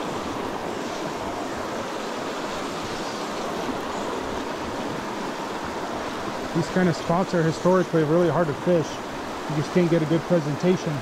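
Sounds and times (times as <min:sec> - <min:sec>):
creek rushing over rocks: 0:00.0 - 0:11.0.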